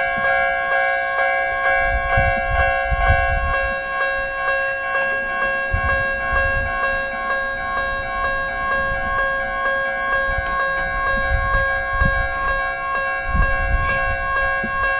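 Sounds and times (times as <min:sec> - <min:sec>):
level crossing bell ringing: 0:00.0 - 0:14.9.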